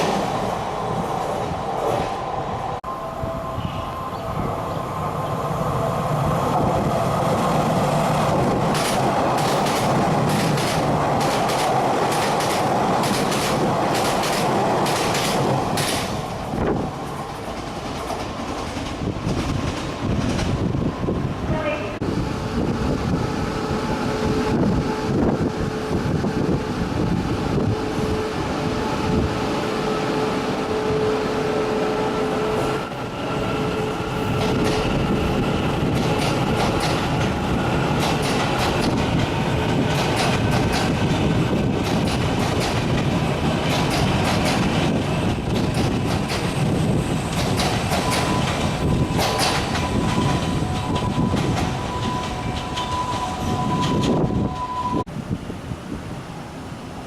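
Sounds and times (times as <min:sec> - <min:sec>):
train running past: 0:00.0 - 0:57.0.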